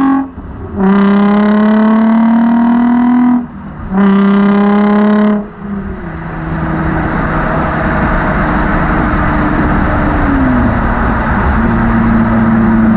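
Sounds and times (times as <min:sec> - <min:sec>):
car engine droning: 0:00.0 - 0:12.9
car engine revving: 0:00.0 - 0:12.9
road noise: 0:00.0 - 0:12.9.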